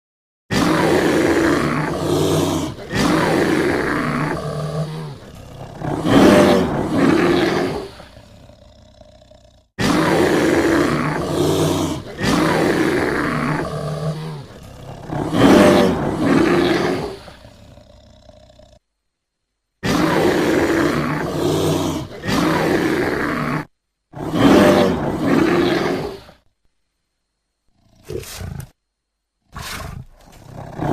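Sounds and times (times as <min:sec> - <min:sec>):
bear roaring and growling: 0:00.5 - 0:18.8, 0:19.8 - 0:26.4, 0:27.7 - 0:28.8, 0:29.5 - 0:30.9.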